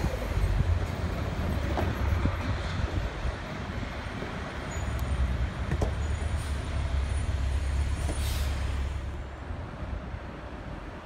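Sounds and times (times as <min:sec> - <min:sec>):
road traffic rumble: 0:00.0 - 0:11.0
trucks and cars passing overhead: 0:00.0 - 0:11.0.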